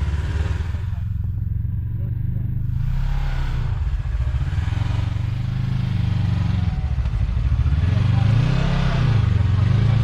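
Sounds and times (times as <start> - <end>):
off-road vehicle engine under load: 0.0 - 10.0.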